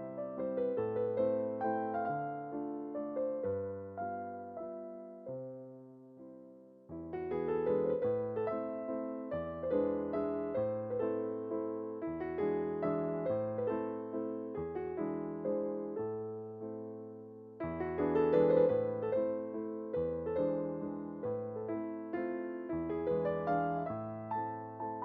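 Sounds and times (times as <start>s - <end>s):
gentle piano tune: 0.0s - 25.0s.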